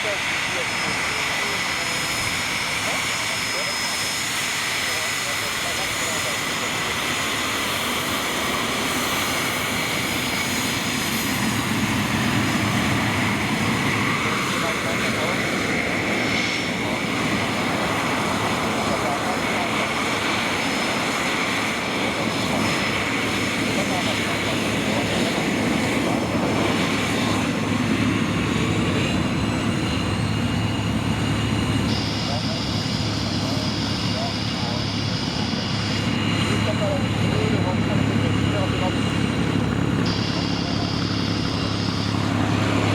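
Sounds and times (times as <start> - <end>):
jet engines rushing: 0.0 - 42.9
thin steady whine: 0.0 - 42.9.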